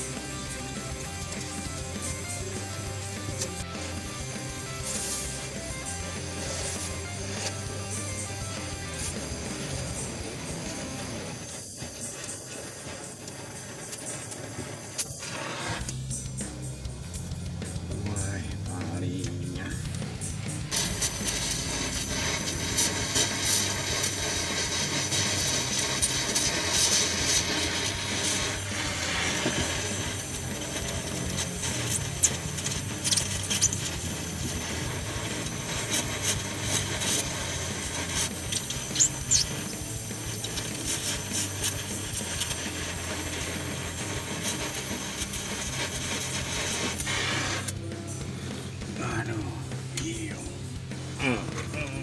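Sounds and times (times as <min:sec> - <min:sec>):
sparks crackling: 0:00.0 - 0:47.9
welding torch flame hissing: 0:00.0 - 0:52.0.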